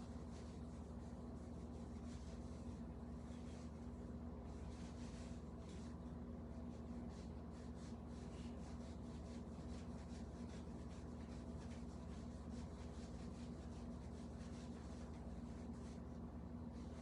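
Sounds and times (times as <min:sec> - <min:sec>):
scratchy rustling: 0:00.0 - 0:17.0.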